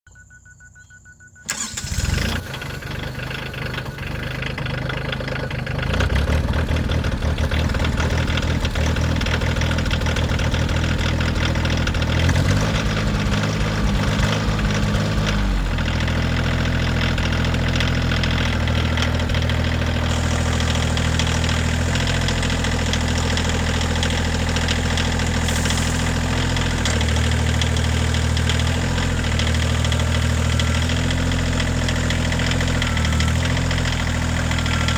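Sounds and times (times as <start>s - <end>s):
tractor diesel engine starting: 0.2s - 34.9s.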